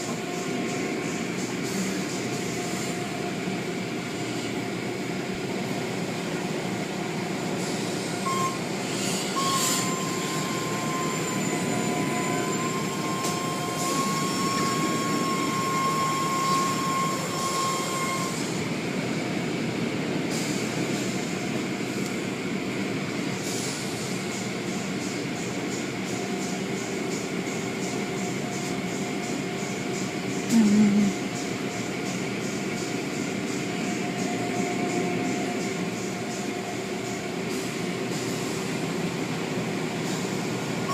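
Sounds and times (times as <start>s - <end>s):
steady mechanical whine: 0.0s - 40.9s.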